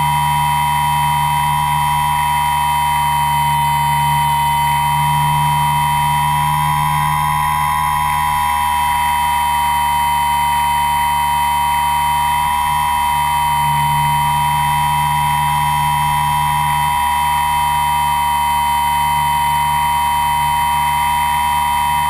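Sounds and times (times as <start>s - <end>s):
model aircraft motor whine: 0.0s - 22.0s.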